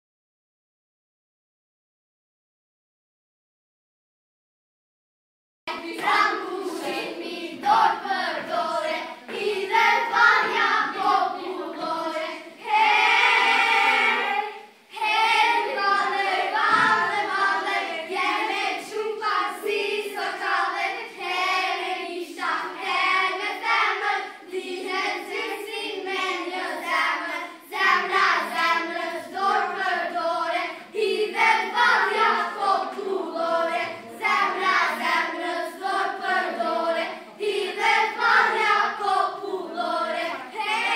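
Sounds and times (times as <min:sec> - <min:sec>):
girls singing in chorus: 0:05.7 - 0:40.9.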